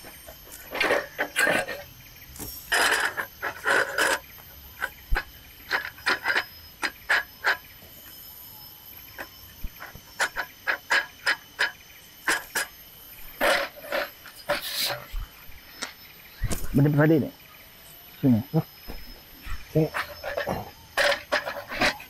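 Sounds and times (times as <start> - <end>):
forest insects droning: 0.0 - 22.0.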